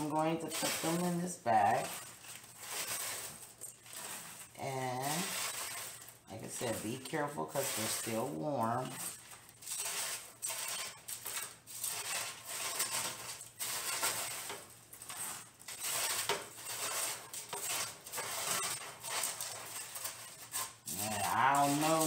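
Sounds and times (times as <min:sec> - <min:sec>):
dry seeds pattering and rattling: 0:00.0 - 0:22.0
foil and plastic bag crinkling: 0:00.0 - 0:22.0.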